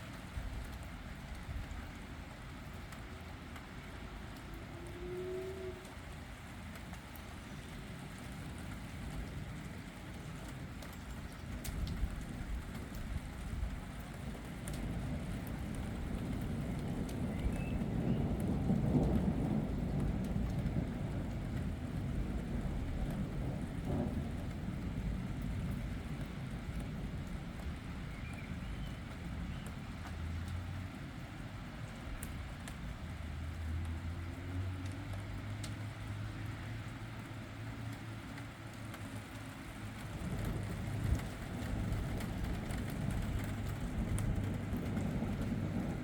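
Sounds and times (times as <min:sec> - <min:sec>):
steady rain: 0:00.0 - 0:46.0
thunder rumbling: 0:03.3 - 0:34.3, 0:39.0 - 0:46.0.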